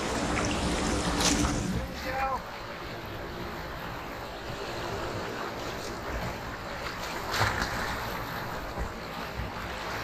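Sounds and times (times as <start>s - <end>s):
water splashing against a kayak: 0.0s - 10.0s.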